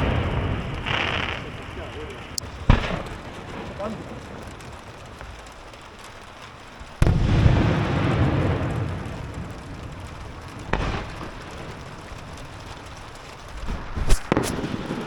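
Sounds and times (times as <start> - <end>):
firework shells booming: 0.0 - 15.0.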